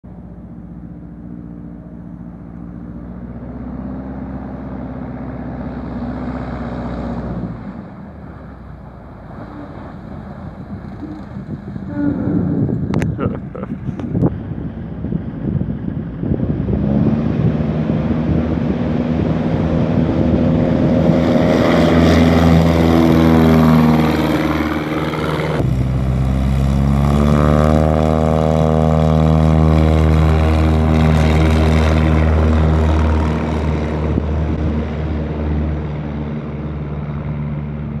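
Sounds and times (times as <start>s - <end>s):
light plane engine drone: 0.0s - 38.0s.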